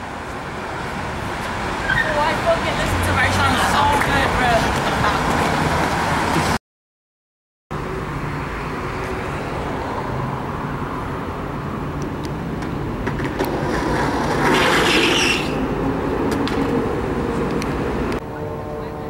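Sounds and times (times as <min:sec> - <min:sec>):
city traffic noise: 0:00.0 - 0:06.6, 0:07.7 - 0:19.0
skateboard wheels rolling on concrete: 0:00.0 - 0:06.6, 0:08.1 - 0:18.2.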